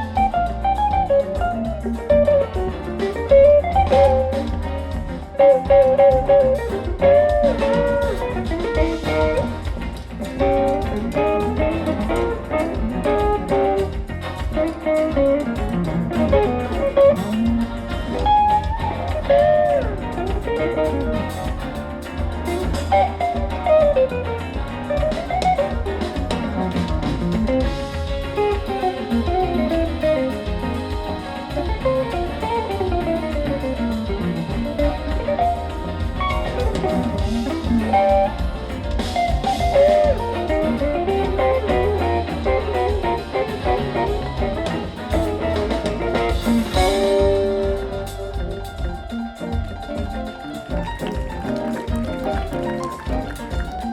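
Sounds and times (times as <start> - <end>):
bass and drums: 0.0 - 53.9
electric guitar solo: 0.0 - 53.9.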